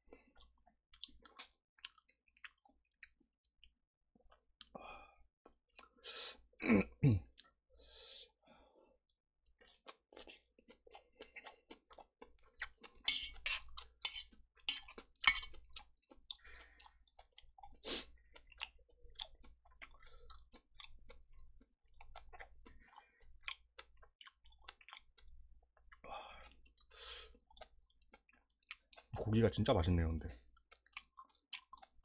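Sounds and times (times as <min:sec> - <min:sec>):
close-miked chewing: 0:00.1 - 0:04.8, 0:09.5 - 0:29.7, 0:30.3 - 0:32.0.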